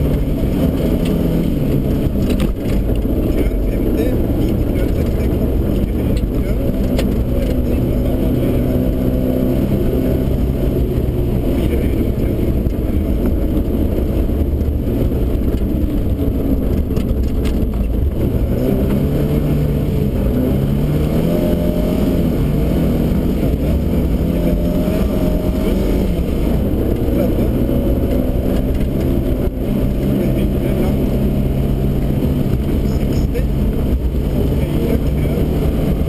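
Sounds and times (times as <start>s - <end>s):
muffled rally car engine: 0.0s - 36.0s.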